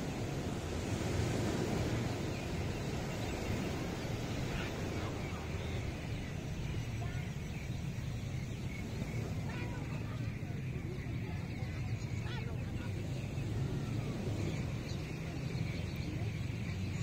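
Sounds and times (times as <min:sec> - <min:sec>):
surf breaking on beach: 0:00.0 - 0:17.0
wind rumble on microphone: 0:00.0 - 0:17.0.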